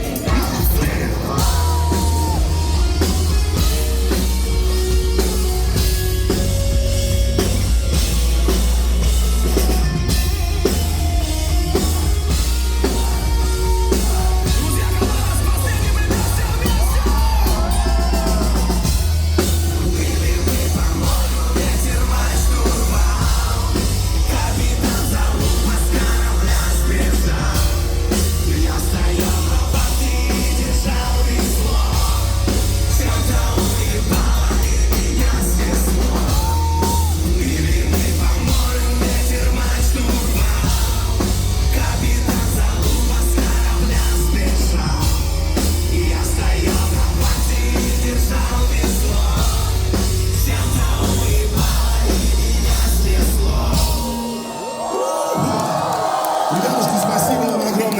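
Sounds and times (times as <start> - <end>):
sung and shouted vocals: 0.0 - 5.9, 11.7 - 57.9
drum kit: 0.0 - 57.9
live metal band playing: 0.0 - 57.9.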